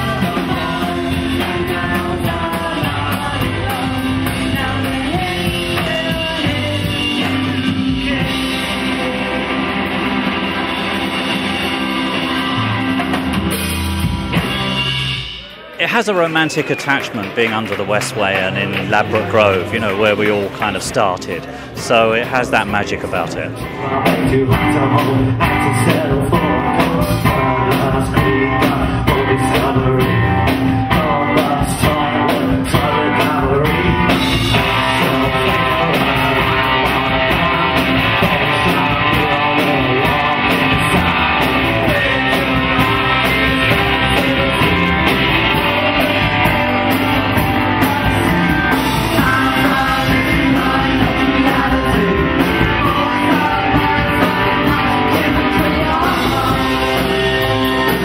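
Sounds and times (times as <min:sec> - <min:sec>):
live rock band playing: 0:00.0 - 0:58.0
steady drum beat: 0:00.0 - 0:58.0.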